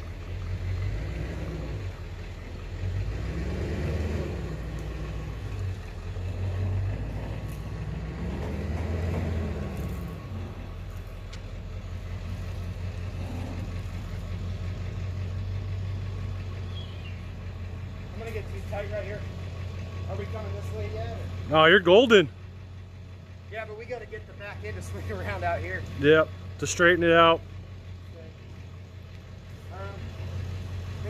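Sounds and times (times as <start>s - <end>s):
vehicle engine straining: 0.0s - 31.0s.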